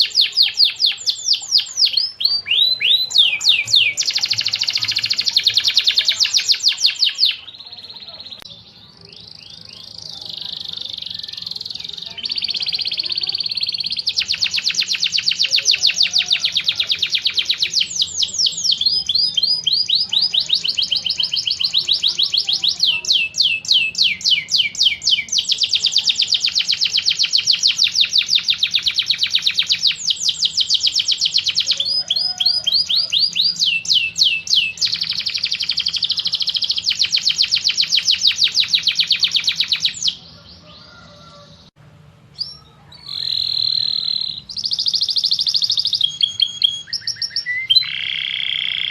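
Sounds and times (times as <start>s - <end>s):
bird trilling: 0.0s - 41.7s, 42.3s - 48.9s.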